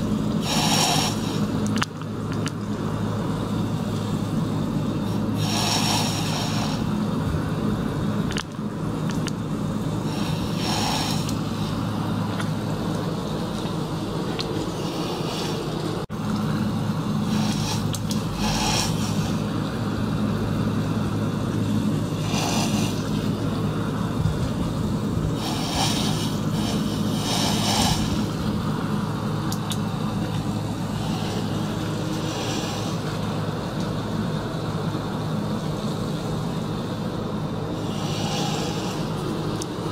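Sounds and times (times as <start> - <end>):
hiss of liquid and air: 0.0 - 16.1, 16.8 - 39.9
pump humming: 0.0 - 39.9.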